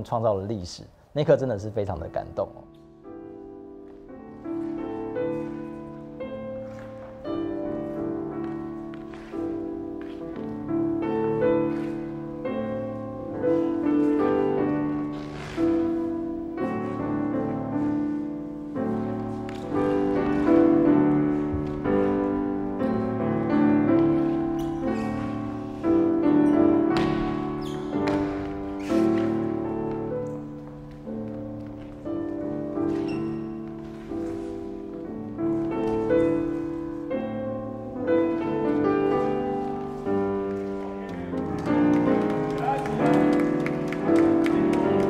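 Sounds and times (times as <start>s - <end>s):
piano slow chords: 2.4s - 45.0s.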